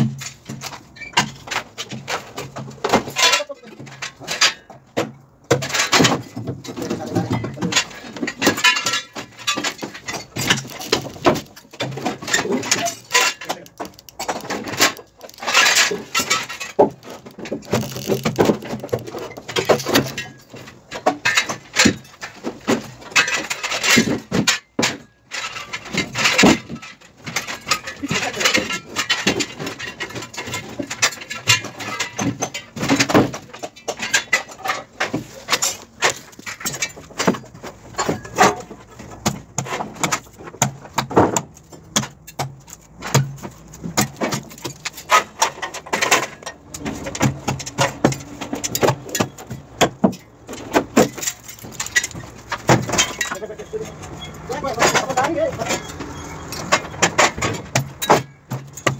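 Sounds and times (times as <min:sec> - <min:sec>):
metallic clanks and rattles: 0:00.0 - 0:58.9.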